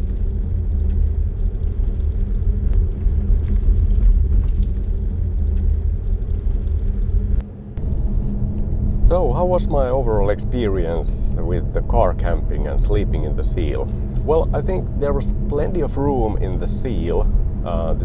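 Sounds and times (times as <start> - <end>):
road and tyre rumble: 0.0 - 18.0.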